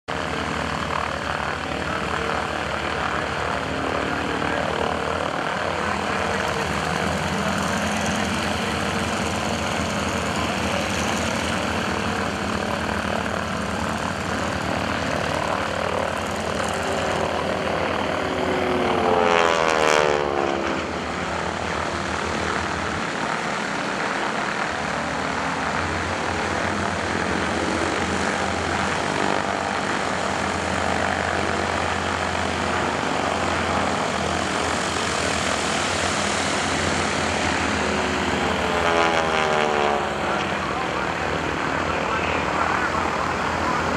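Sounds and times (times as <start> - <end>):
propeller plane engine: 0.0 - 43.9.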